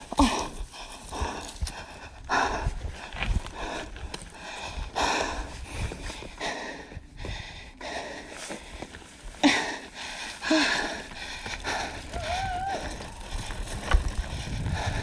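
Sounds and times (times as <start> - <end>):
person breathing hard: 0.1 - 15.0.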